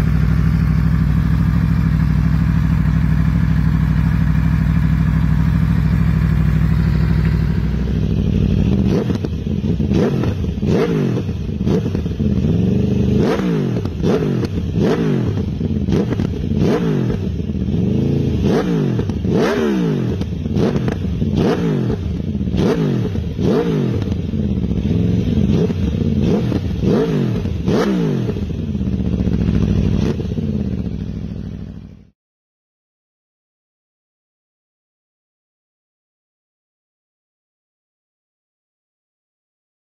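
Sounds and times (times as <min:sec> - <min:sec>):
motorcycle engine revving: 0:00.0 - 0:32.1.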